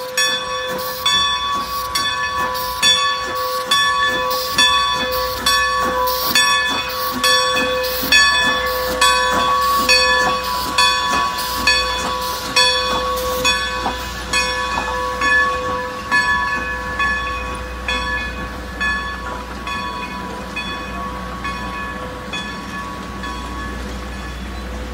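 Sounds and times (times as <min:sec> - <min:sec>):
locomotive bell ringing: 0:00.0 - 0:24.9
train coaches rumbling past: 0:00.0 - 0:24.9.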